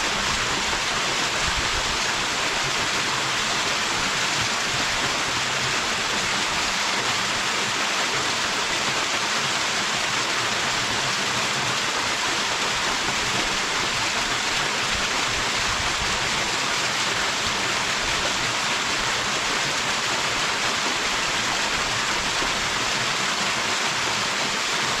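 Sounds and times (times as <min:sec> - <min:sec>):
waterfall pouring: 0:00.1 - 0:25.0.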